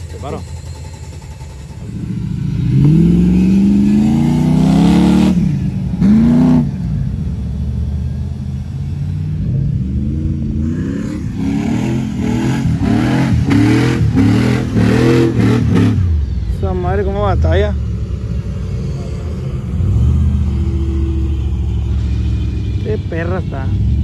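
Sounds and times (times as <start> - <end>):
engines revving hard: 0.0 - 7.4, 9.3 - 24.0.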